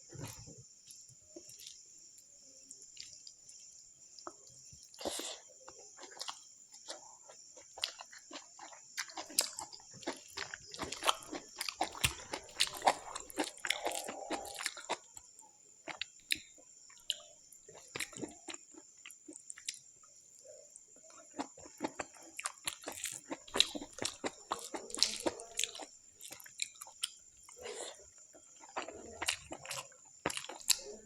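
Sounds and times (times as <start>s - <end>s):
person chewing and eating: 3.0s - 31.0s.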